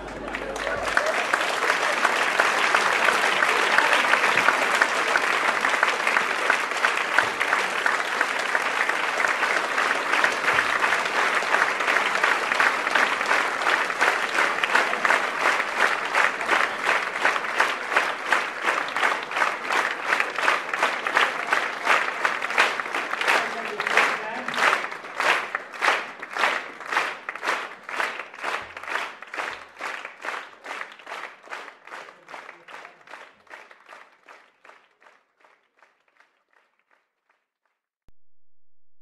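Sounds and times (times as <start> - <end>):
audience applauding: 0.0 - 37.8
rhythmic clapping in unison: 0.0 - 37.9.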